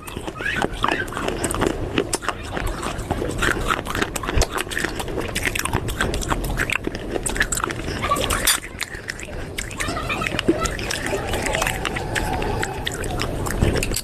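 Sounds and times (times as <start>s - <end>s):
crunching and chewing clay pieces: 0.0s - 14.0s.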